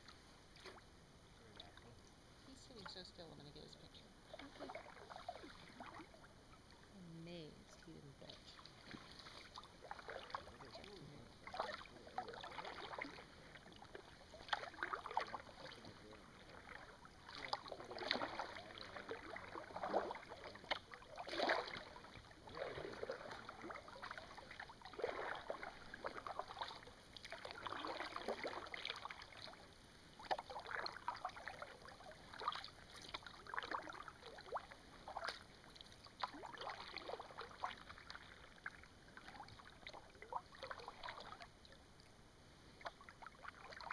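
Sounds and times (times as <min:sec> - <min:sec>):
paddle splashing and dripping: 0:00.0 - 0:43.9.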